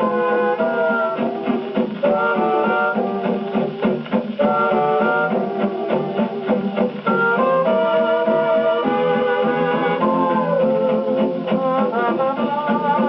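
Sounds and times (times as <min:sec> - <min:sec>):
dance band record on gramophone: 0:00.0 - 0:13.0.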